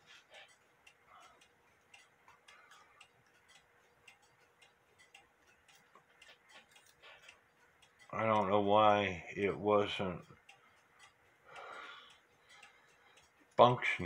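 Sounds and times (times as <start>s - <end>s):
mechanical clock ticking: 0.0s - 14.0s.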